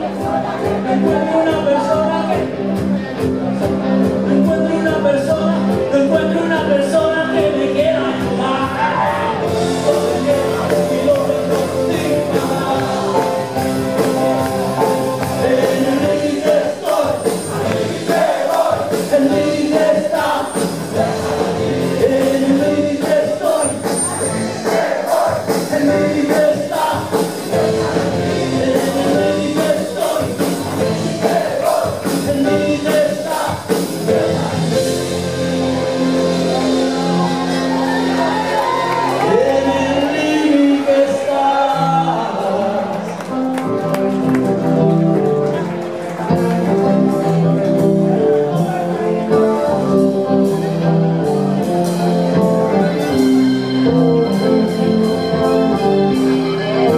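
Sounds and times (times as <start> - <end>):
live rock band with singing: 0.0 - 56.9.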